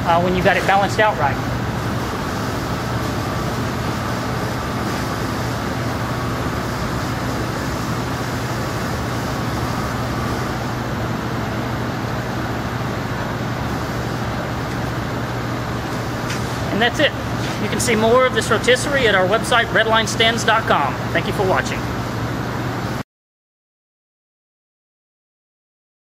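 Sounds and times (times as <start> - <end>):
machinery hum and hiss: 0.0 - 23.0.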